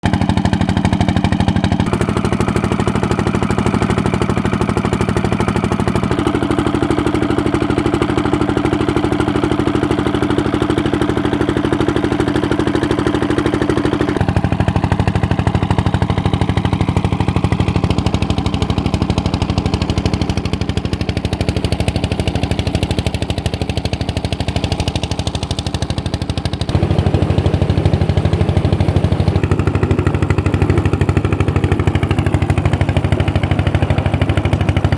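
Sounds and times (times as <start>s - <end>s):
old stationary engine running: 0.0s - 34.9s.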